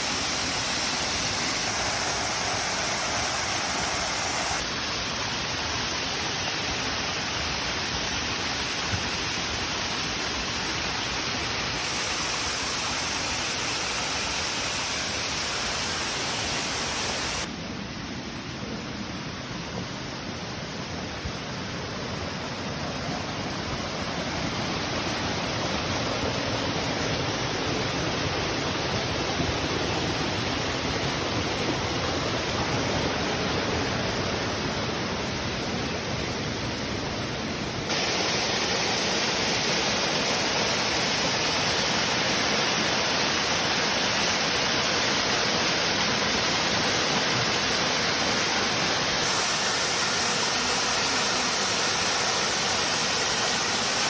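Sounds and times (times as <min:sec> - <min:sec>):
waterfall roaring: 0:00.0 - 0:17.7, 0:18.4 - 0:54.0.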